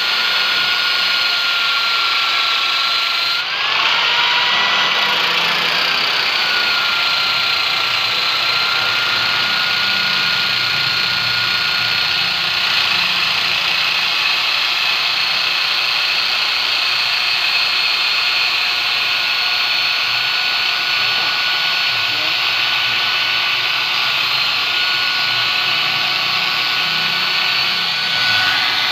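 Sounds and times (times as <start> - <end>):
electric power tool whining: 0.0 - 28.9.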